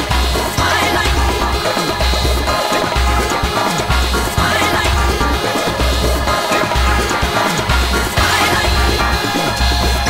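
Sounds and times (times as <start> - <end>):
music with deep bass beat: 0.0 - 10.0.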